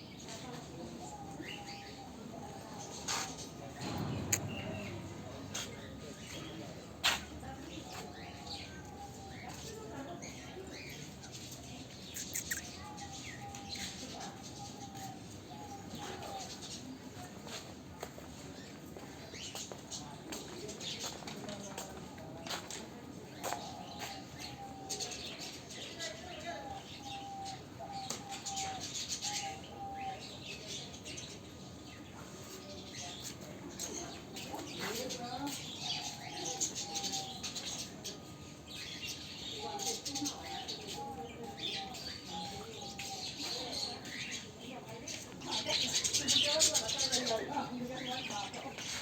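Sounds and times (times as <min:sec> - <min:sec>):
birds chirping: 0:00.0 - 0:17.6, 0:18.5 - 0:49.0.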